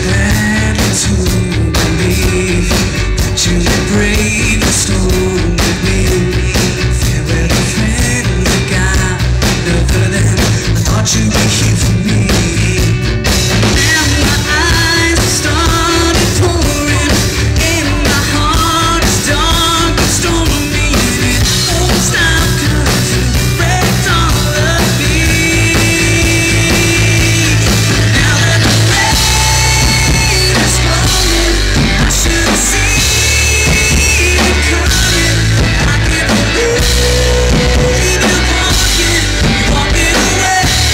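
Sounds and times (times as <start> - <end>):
man singing: 0.0 - 40.9
rock band playing live: 0.0 - 40.9.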